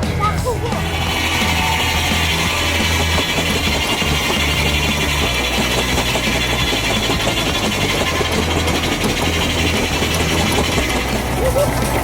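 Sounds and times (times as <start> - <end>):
saw mill machinery running: 0.0 - 12.0.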